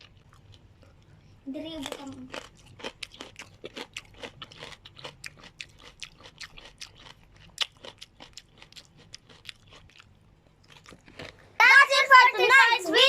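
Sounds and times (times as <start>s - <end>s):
crisp food being chewed: 0.0s - 1.2s, 1.8s - 11.5s.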